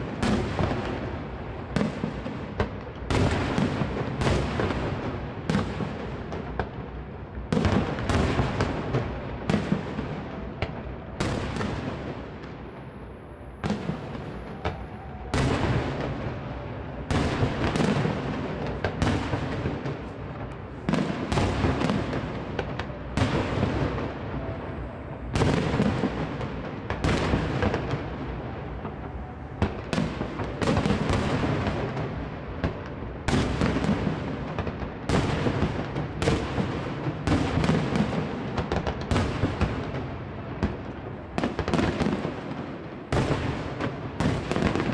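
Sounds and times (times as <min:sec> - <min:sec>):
fireworks bursting with bangs: 0:00.0 - 0:44.9
rolling echo: 0:00.0 - 0:44.9.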